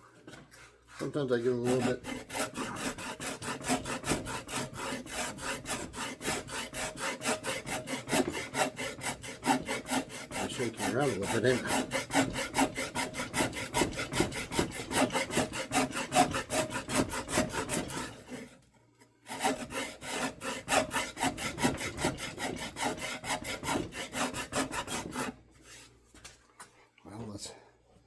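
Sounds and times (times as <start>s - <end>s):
hand tool cutting wood: 0.1s - 18.6s, 19.3s - 25.8s.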